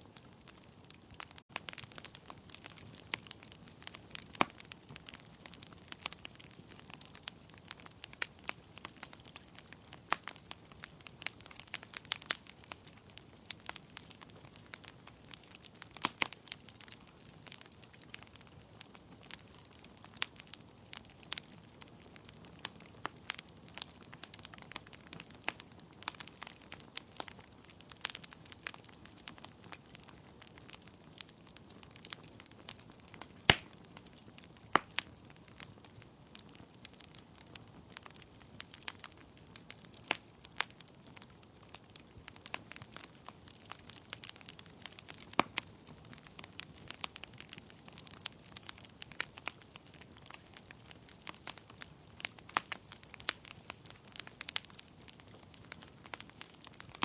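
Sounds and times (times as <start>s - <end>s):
fire popping and snapping: 0.0s - 57.0s
wood fire crackling: 0.0s - 57.0s.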